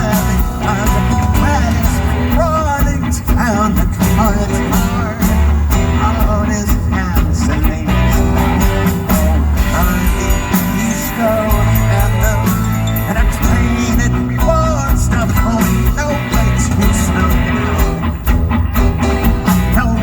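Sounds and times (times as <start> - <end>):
bass: 0.0 - 20.0
drums: 0.0 - 20.0
wavering lead guitar melody: 0.0 - 20.0.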